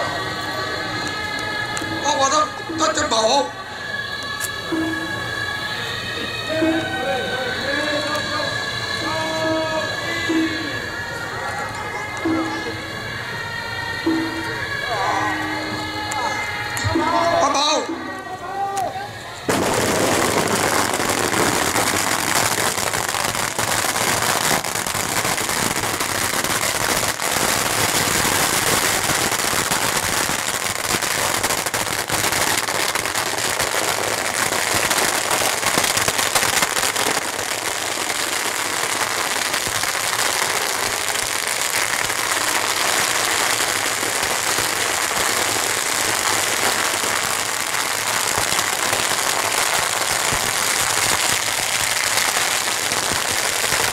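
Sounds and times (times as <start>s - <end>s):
firecrackers crackling: 0.0s - 53.9s.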